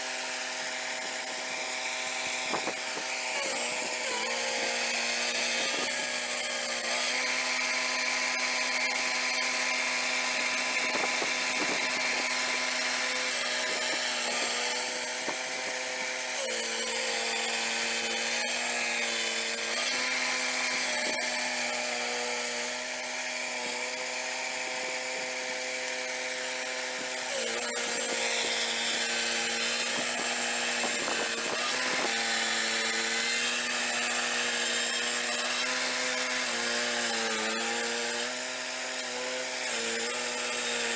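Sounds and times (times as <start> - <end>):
saw blade cutting log: 0.0 - 40.9
small engine running: 0.0 - 40.9.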